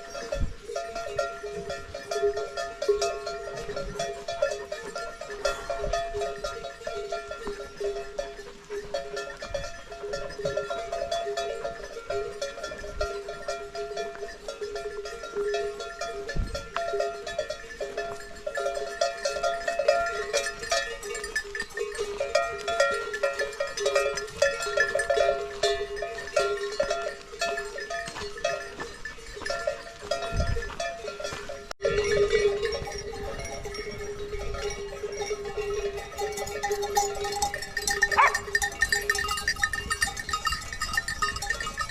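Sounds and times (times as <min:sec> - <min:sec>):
bells clanking: 0:00.0 - 0:41.9.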